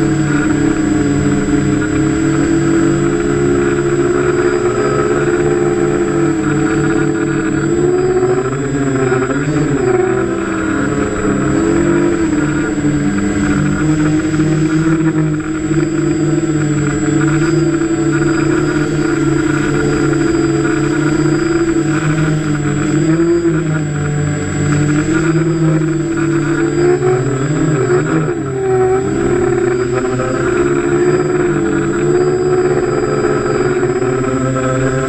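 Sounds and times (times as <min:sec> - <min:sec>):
model aircraft motors humming: 0:00.0 - 0:35.0
thin high whine: 0:00.0 - 0:35.0.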